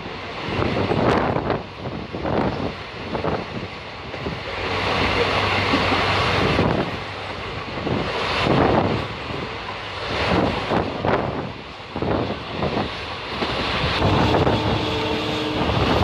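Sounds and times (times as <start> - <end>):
train running at speed: 0.0 - 16.0
wind rushing over microphone: 0.0 - 16.0.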